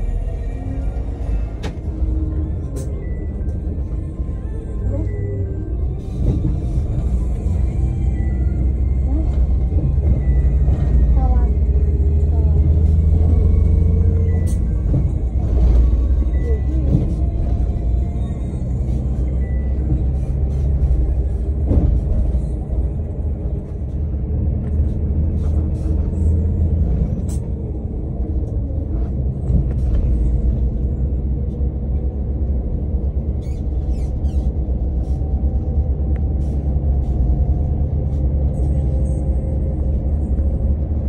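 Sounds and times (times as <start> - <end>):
bus diesel engine rumble: 0.0 - 41.0.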